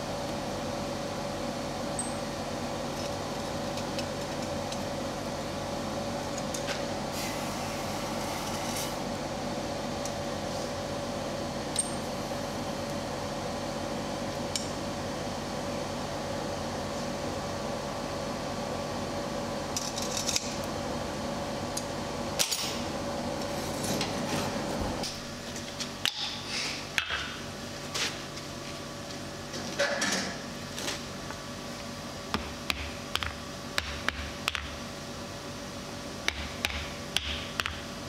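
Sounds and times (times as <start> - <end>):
forge air blower humming: 0.0 - 38.0.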